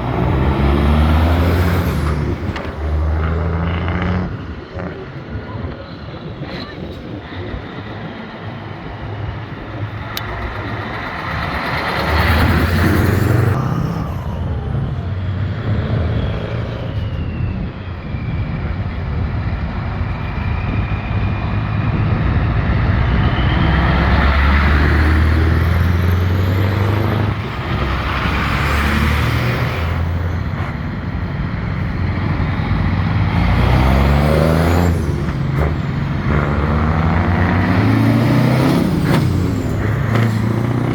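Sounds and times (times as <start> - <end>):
trucks driving past: 0.0 - 5.8, 7.2 - 40.9.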